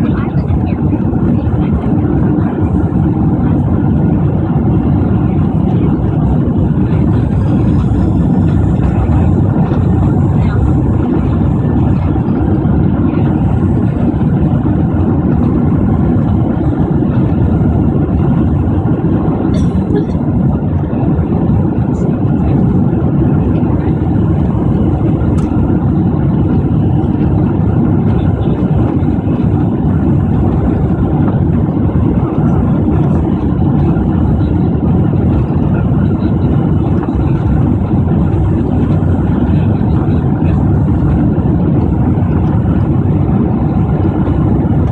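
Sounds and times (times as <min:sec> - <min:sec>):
jet engines rumbling in cabin: 0:00.0 - 0:44.9.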